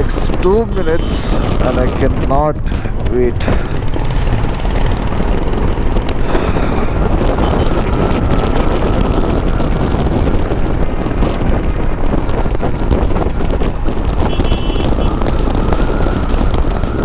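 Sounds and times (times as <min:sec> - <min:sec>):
moving vehicle noise: 0:00.0 - 0:17.0
wind buffeting microphone: 0:00.0 - 0:17.0.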